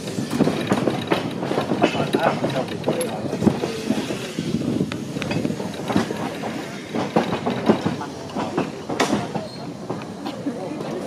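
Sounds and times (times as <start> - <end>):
tram rumbling along track: 0.0 - 11.0
wheels clattering on rails: 0.0 - 11.0.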